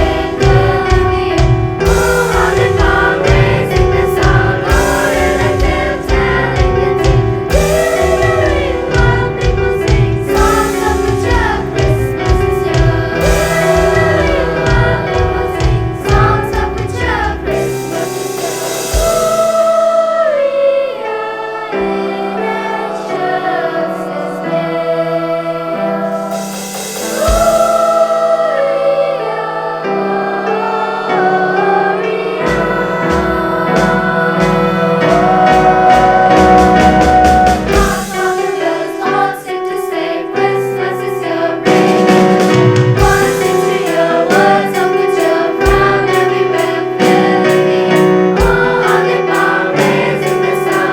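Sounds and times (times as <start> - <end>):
choir singing in parts: 0.0 - 50.9
instrumental accompaniment: 0.0 - 50.9.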